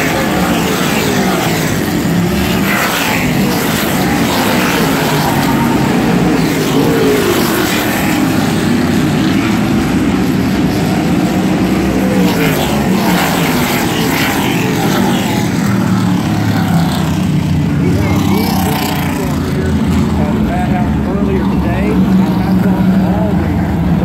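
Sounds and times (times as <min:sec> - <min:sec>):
race car engines accelerating: 0:00.0 - 0:24.0.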